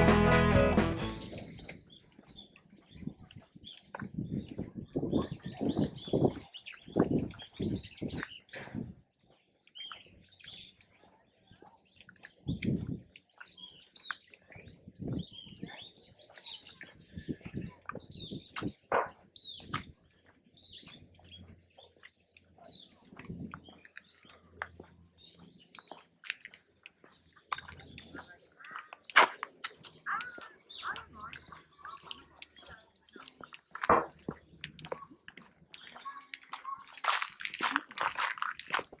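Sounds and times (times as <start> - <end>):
small birds chirping: 1.0 - 39.0.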